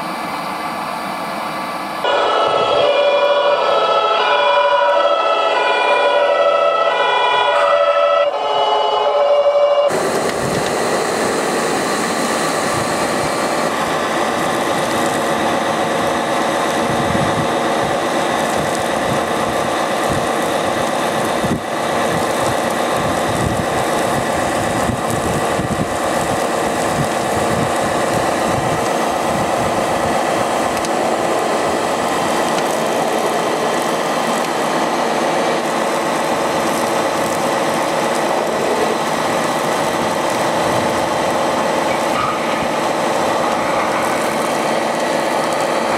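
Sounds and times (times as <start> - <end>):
pump motor hum and whine: 0.0 - 45.9.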